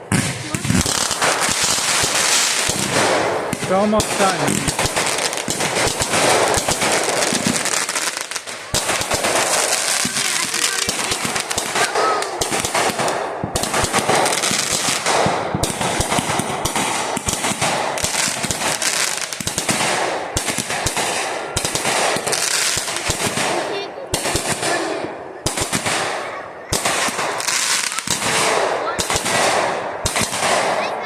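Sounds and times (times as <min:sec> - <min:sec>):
firecrackers popping: 0:00.0 - 0:31.0.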